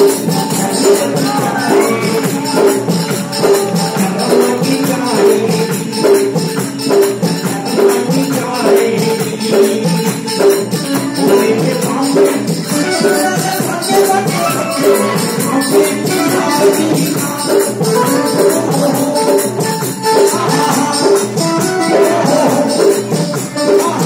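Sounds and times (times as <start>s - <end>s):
jingling hand percussion beat: 0.0s - 24.0s
men singing over a pa: 0.0s - 24.0s.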